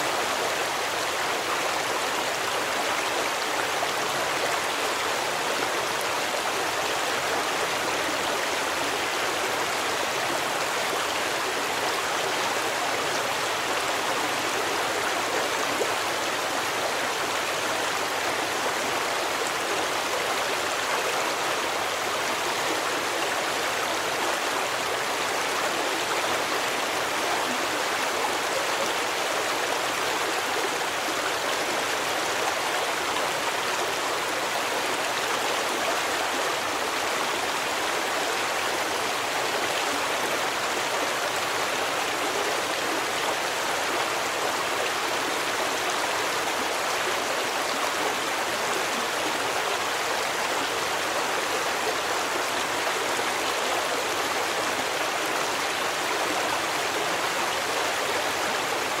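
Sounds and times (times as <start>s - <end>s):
stream water rushing and babbling: 0.0s - 59.0s.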